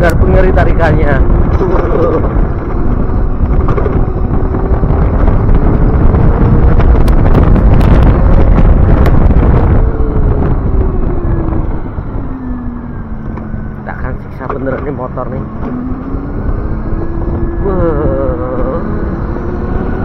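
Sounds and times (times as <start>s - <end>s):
electric motorcycle drive whine: 0.0s - 20.0s
wind buffeting microphone: 0.0s - 20.0s.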